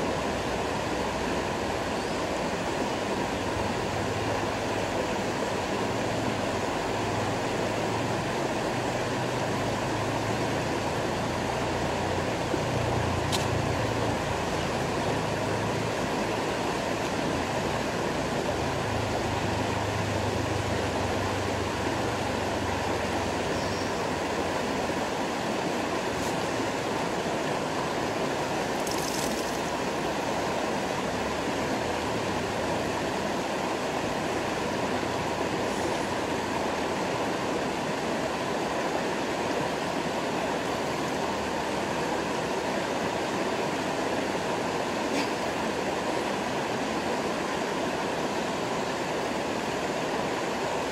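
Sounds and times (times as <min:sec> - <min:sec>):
river running over stones: 0:00.0 - 0:50.9.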